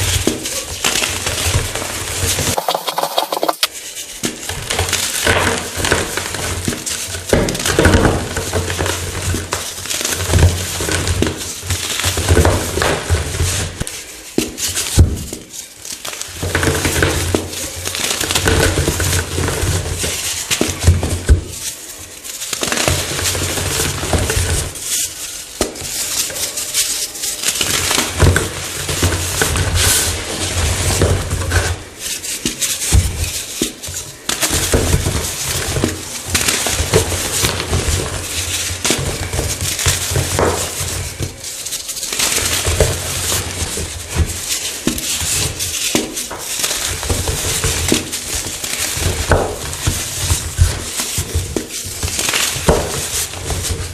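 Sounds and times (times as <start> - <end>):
chalk blocks crunching: 0.0 - 53.9.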